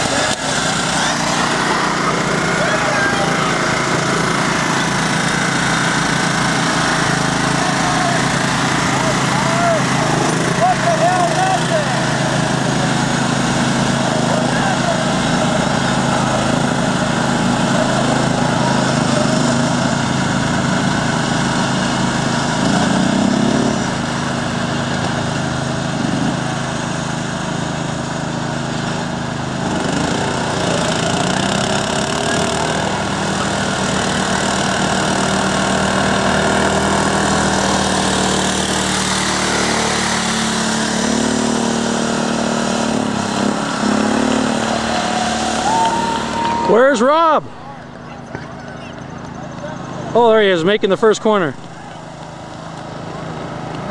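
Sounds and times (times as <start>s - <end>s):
riding lawn mower engine drone: 0.0s - 53.9s.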